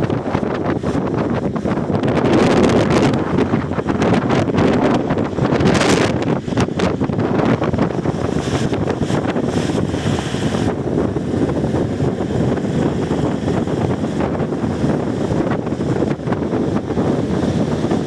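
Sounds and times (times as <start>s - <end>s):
moving car rumble: 0.0s - 18.0s
wind buffeting microphone: 0.0s - 18.0s.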